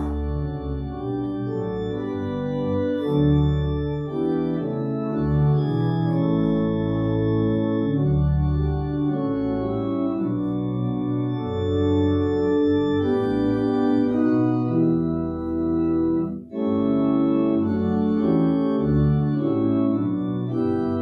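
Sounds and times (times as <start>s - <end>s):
church organ playing hymn: 0.0s - 21.0s.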